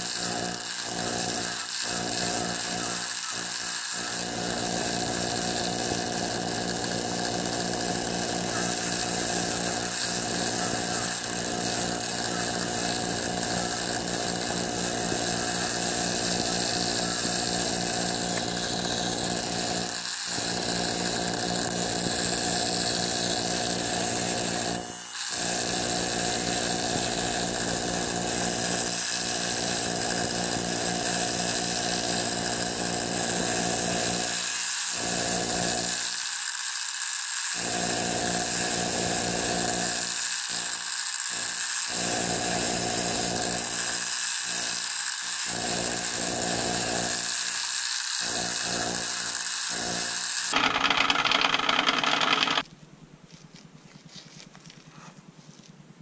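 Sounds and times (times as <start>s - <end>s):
bench buffer motor running: 0.0s - 52.6s.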